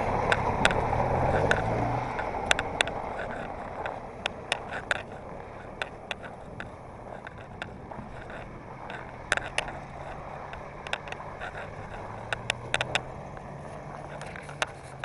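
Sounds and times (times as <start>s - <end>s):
small engine humming: 0.0s - 15.0s
clicks and rattles: 0.1s - 15.0s.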